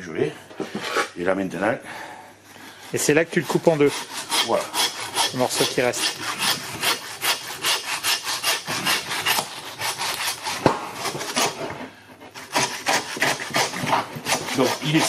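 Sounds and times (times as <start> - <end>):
hand saw cutting bone: 2.8 - 15.0.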